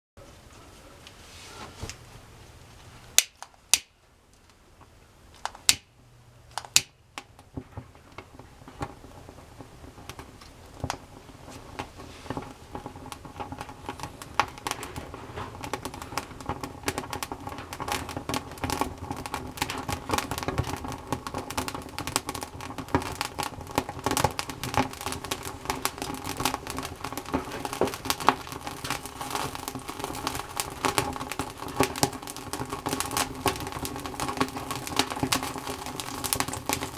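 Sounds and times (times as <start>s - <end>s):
campfire crackling and popping: 1.8s - 36.9s.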